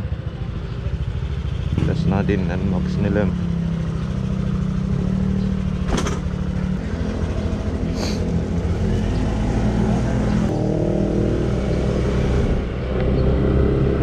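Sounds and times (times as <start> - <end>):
muffled scooter engine: 0.0 - 14.0.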